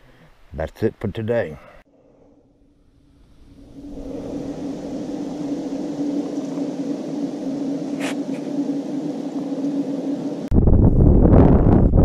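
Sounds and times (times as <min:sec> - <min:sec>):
low steady hum: 0:01.9 - 0:11.7.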